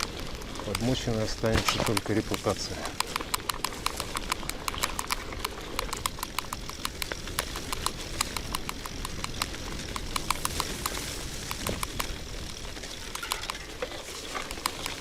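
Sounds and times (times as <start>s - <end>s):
bicycle clicking: 0.0s - 15.0s
low rolling noise: 0.0s - 15.0s.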